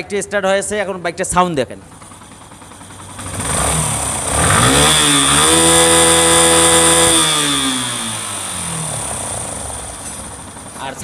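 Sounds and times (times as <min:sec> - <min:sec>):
motorcycle engine revving: 0:00.8 - 0:11.0.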